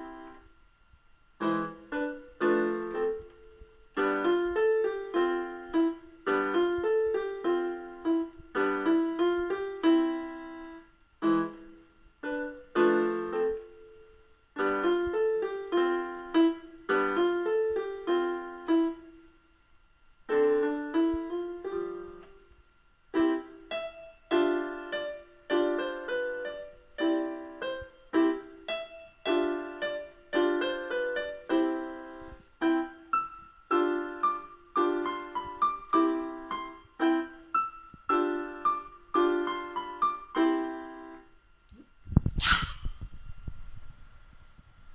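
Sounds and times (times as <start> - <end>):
electronic keyboard piano notes: 0.0 - 0.5, 1.4 - 19.4, 20.3 - 41.4.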